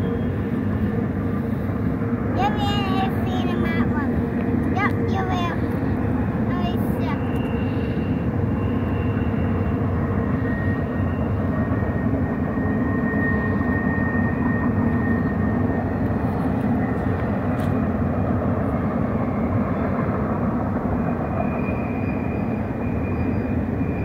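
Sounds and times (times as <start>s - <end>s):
distant freight train rumbling: 0.0s - 24.0s.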